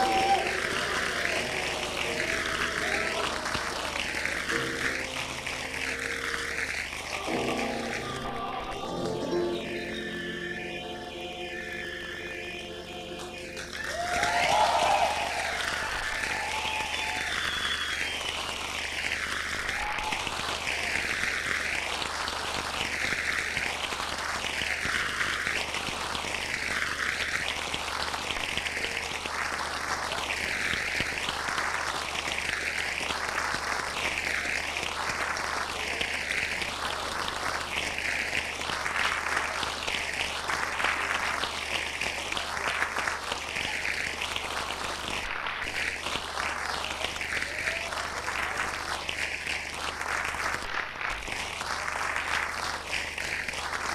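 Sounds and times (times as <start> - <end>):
large audience applauding: 0.0 - 53.9.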